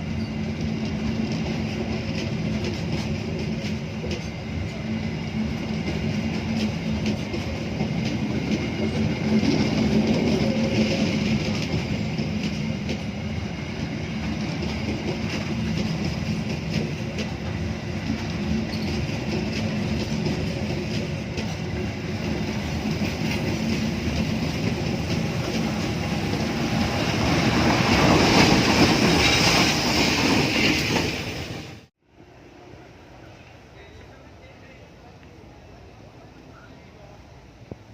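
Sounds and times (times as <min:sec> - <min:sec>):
train wheels clacking on rails: 0:00.0 - 0:31.5.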